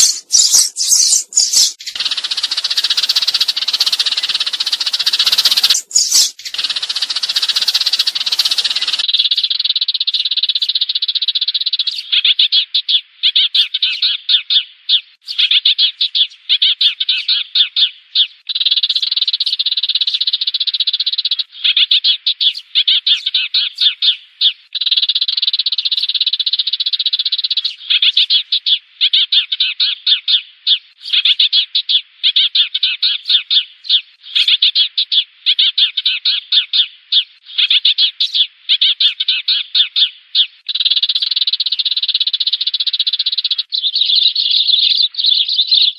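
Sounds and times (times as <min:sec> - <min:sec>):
sparrows chirping: 0:00.0 - 0:45.9.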